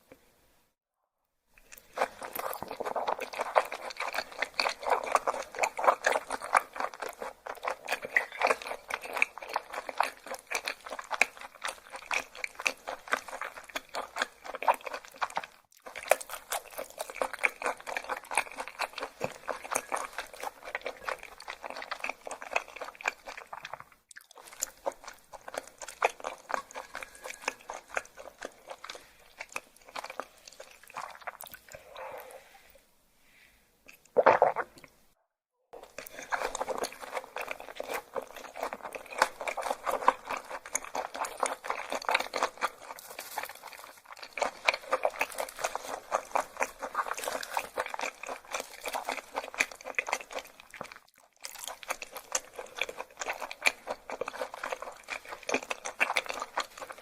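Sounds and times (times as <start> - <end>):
wet crunchy chewing: 1.6 - 32.4, 33.9 - 35.0, 35.7 - 57.0.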